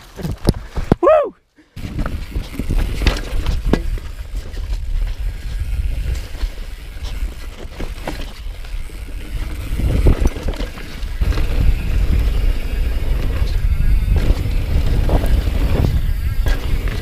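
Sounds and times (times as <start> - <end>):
bike rattling over rocks: 0.0 - 1.0, 1.8 - 17.0
wind rumble on microphone: 1.8 - 17.0.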